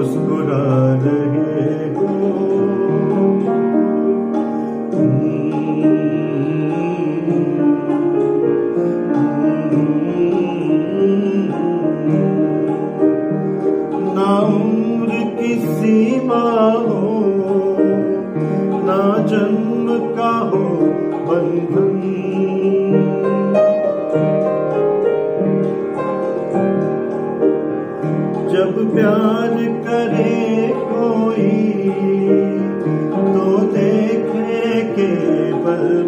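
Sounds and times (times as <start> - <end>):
man singing: 0.0 - 4.0, 4.9 - 24.3, 28.0 - 36.0
upright piano melody with chords: 0.0 - 36.0.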